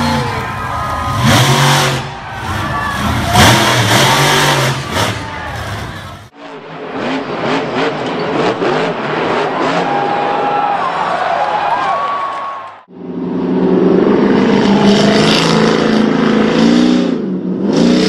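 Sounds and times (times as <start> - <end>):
monster truck engine revving: 0.0 - 11.2, 13.0 - 18.0.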